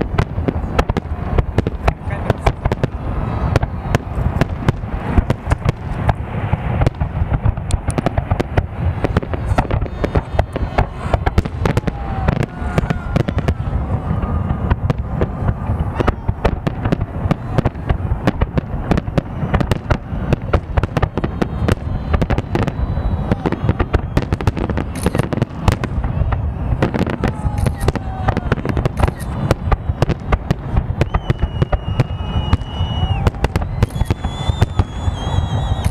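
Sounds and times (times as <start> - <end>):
fireworks banging and crackling: 0.0 - 35.9.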